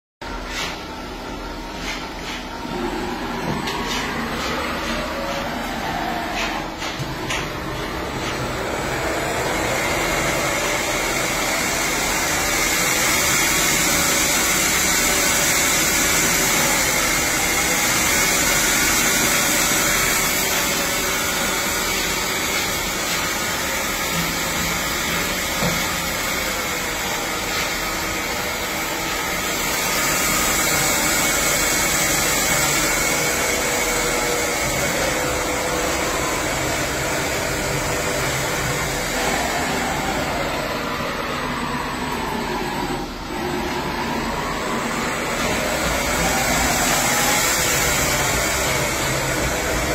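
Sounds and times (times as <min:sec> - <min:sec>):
lathe spindle whirring: 0:00.3 - 0:49.9.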